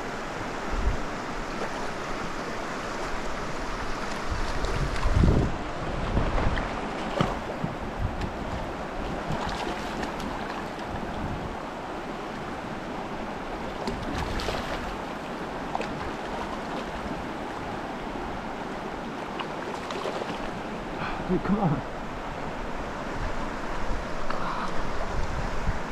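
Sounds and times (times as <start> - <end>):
stream rushing: 0.0 - 25.9.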